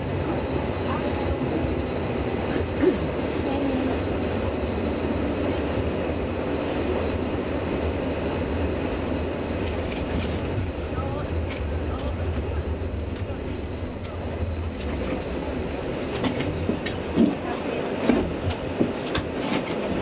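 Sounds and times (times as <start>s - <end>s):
tram running gear rumble: 0.0s - 20.0s.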